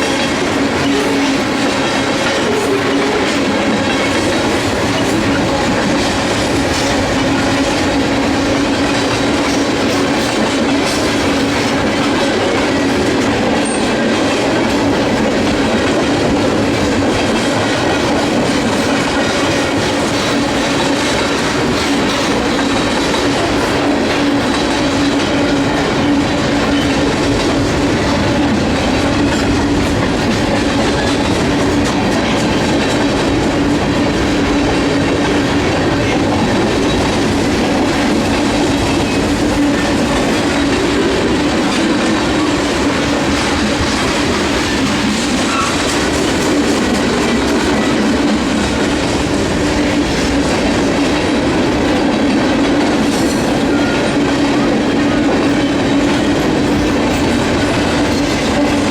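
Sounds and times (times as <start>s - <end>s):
train wheel and rail clatter: 0.0s - 58.9s.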